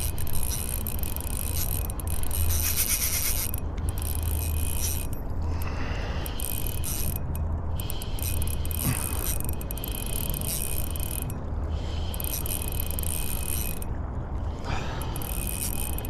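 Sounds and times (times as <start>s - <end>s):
fishing reel whirring and clicking: 0.0s - 14.0s, 14.7s - 16.0s.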